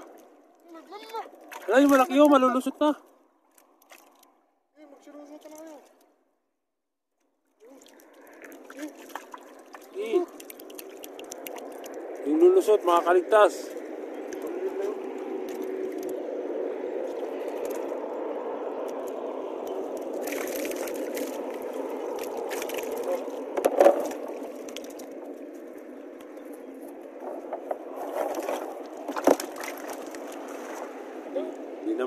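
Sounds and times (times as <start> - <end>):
water sloshing and splashing: 0.0 - 6.2, 7.2 - 31.8.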